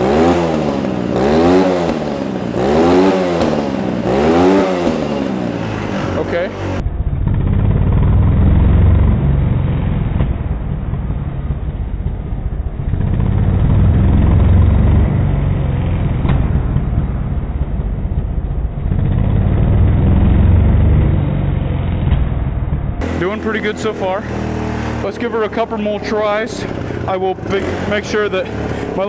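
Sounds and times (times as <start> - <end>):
dirt bike engine revving: 0.0 - 10.3, 12.9 - 17.1, 18.9 - 29.0.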